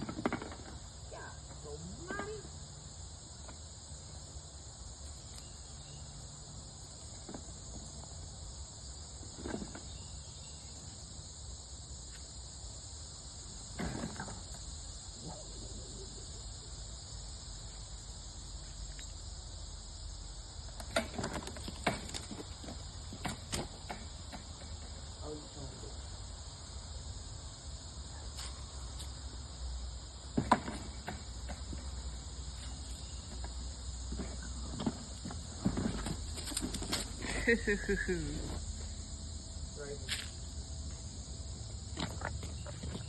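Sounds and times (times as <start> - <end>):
insects chorus: 0.0 - 43.0.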